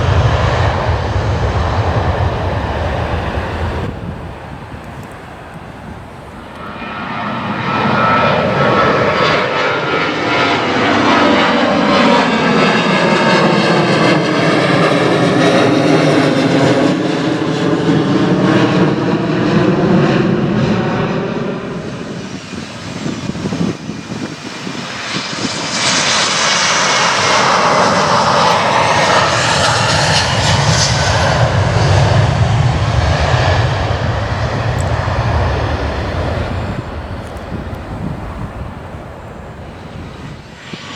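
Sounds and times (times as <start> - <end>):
jet engines passing low: 0.0 - 40.9.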